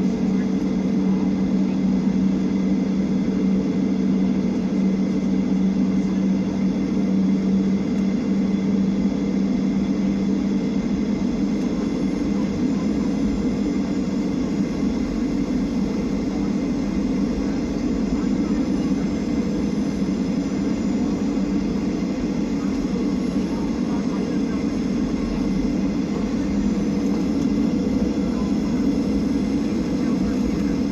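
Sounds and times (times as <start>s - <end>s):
engine drone: 0.0s - 30.9s.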